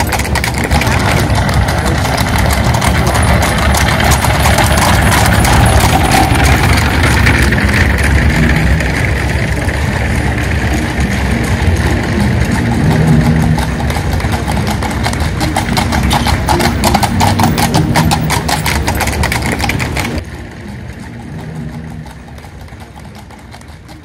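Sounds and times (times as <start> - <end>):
car engine running: 0.0 - 24.0
horse hooves on cobblestones: 0.0 - 24.0.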